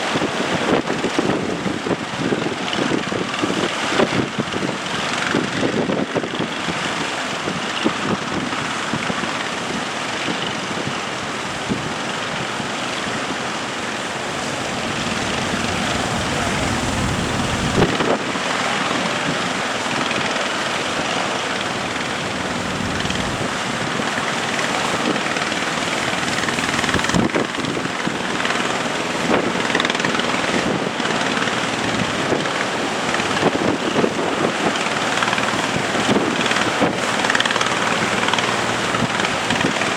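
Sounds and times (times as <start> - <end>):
boat engine running: 0.0 - 39.9
waves rushing: 0.0 - 39.9
wind buffeting microphone: 0.0 - 39.9.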